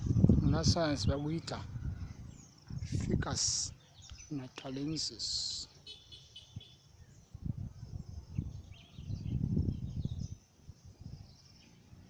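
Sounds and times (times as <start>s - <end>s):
wind rumble on microphone: 0.0s - 4.3s, 6.5s - 12.0s.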